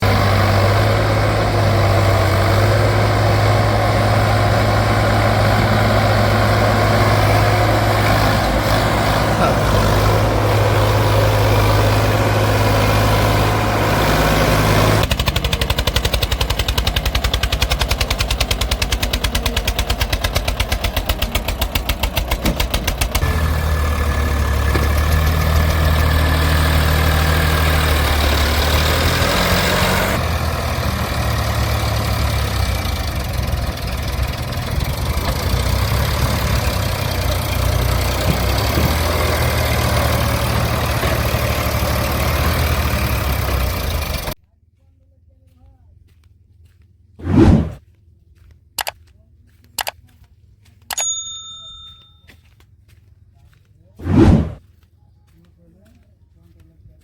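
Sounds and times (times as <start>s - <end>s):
heavy diesel engines running: 0.0s - 44.4s, 45.8s - 57.0s.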